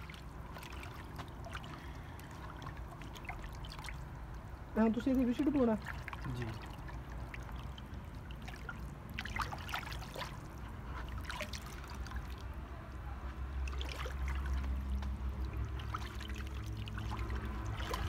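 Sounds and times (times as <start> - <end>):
hand sloshing clay slip in bucket: 0.0 - 12.6, 13.2 - 18.0.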